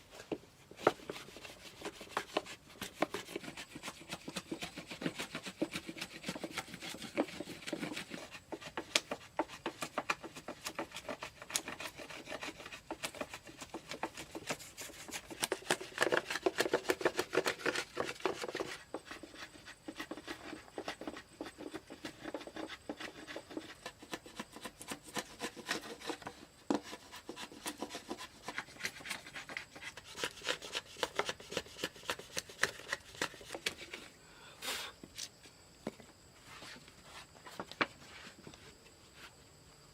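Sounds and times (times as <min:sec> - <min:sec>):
hand tool scraping wood: 0:00.0 - 0:34.2.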